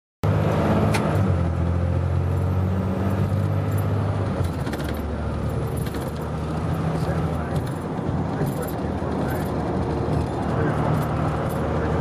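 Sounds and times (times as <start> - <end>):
car engine and road noise: 0.2 - 12.0.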